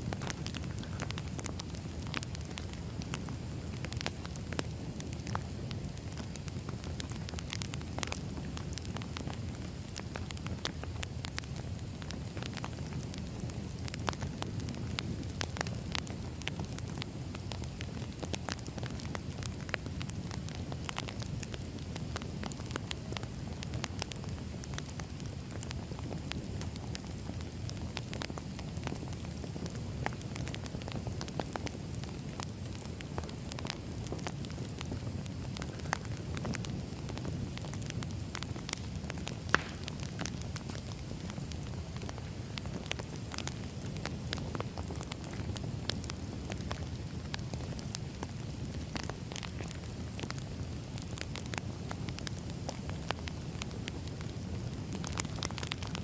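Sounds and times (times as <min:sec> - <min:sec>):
firewood crackling and popping: 0:00.0 - 0:56.0
low rumble of flames: 0:00.0 - 0:56.0.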